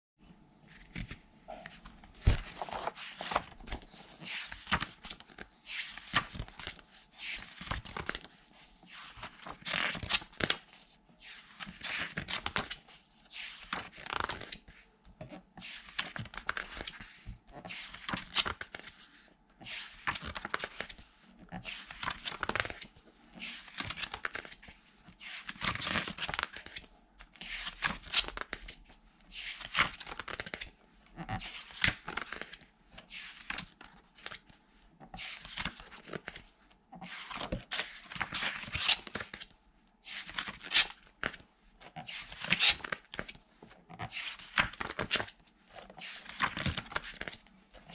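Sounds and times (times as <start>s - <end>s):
book pages turning: 0.7s - 39.5s, 40.1s - 47.9s.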